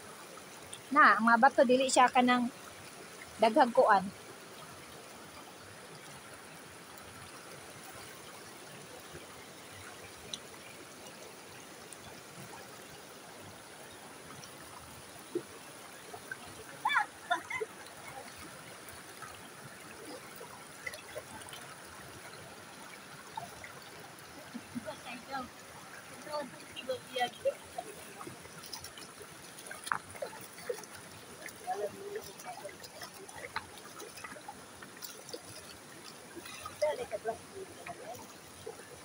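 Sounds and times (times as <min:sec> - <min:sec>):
creek trickling over stones: 0:00.0 - 0:39.0.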